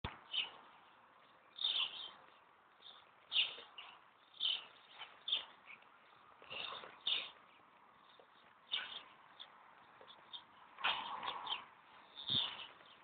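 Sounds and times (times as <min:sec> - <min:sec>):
small bird chirping: 0:00.1 - 0:13.0.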